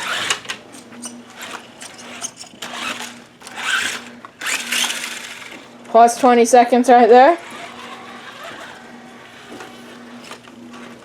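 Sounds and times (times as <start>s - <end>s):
toy truck motor whining: 0.0s - 10.5s.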